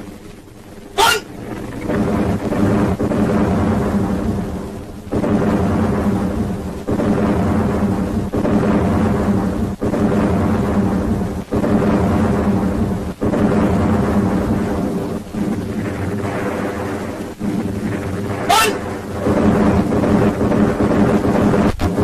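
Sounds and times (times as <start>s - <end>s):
battle rumble: 0.0s - 22.0s.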